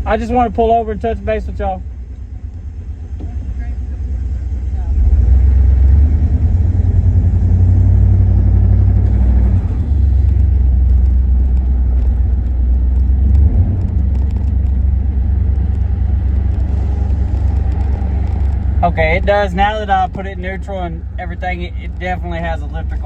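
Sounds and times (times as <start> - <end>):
faint engine ticking: 0.0 - 23.0
pickup engine idling: 0.0 - 23.0.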